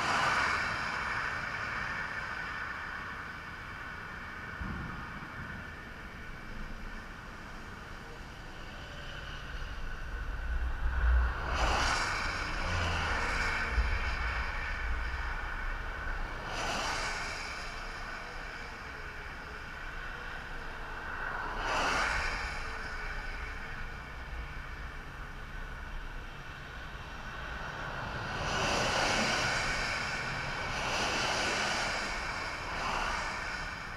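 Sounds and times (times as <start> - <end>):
cars passing whoosh: 0.0 - 8.0, 8.7 - 33.9.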